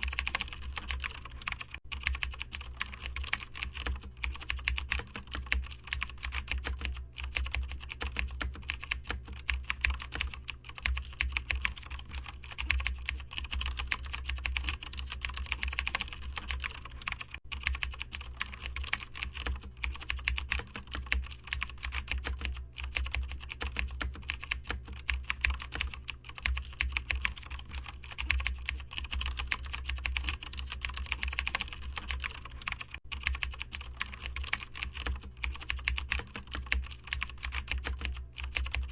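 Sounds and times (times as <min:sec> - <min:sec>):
rapid keyboard typing: 0:00.0 - 0:38.9
steady low hum: 0:00.0 - 0:38.9.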